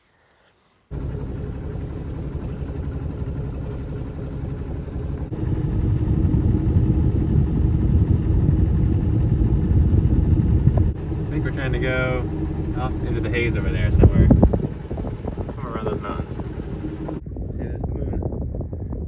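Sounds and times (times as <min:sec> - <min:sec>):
boat engine running: 0:00.9 - 0:17.2.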